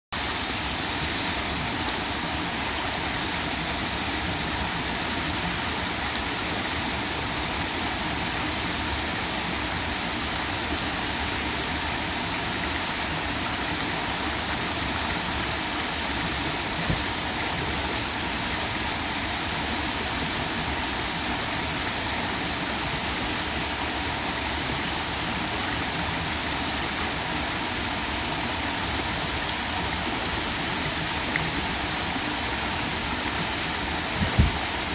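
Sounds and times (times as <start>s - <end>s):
stream rushing over stones: 0.2s - 34.9s
waterfall pouring into pool: 0.2s - 34.9s.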